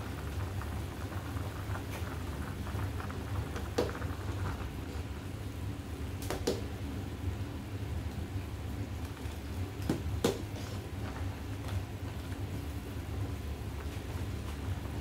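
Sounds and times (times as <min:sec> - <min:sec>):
broth bubbling in pot: 0:00.0 - 0:15.0.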